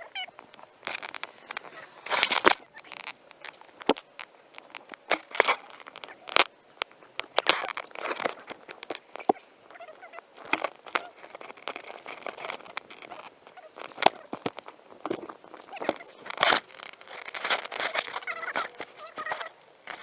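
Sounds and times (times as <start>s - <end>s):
digging in soil: 0.5s - 20.0s.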